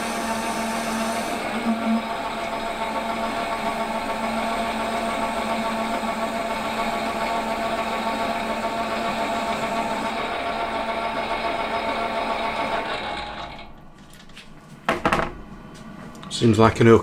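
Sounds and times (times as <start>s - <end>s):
metal lathe running: 0.0s - 13.8s.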